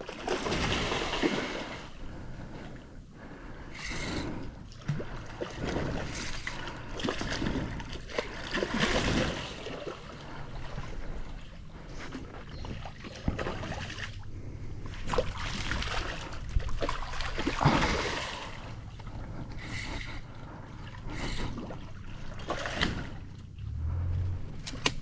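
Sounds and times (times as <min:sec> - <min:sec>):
water lapping around boat: 0:00.0 - 0:25.0.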